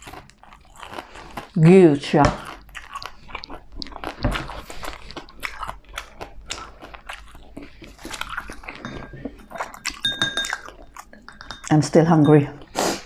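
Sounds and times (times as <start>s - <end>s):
person chewing crunchy food: 0.0s - 11.8s, 12.6s - 13.0s.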